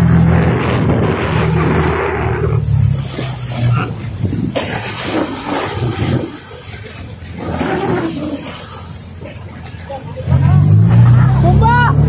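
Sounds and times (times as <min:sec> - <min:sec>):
boat diesel engine running: 0:00.0 - 0:12.0
water splashing along hull: 0:00.0 - 0:12.0.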